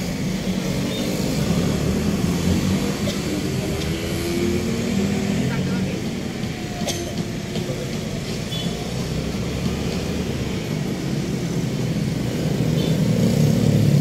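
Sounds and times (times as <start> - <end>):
cars and motorcycles passing: 0.0 - 14.0
road traffic: 0.0 - 14.0.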